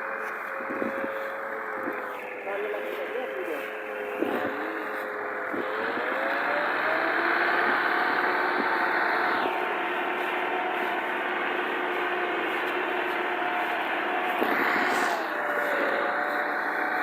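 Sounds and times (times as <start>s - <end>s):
tractor engine whining: 0.0s - 17.0s.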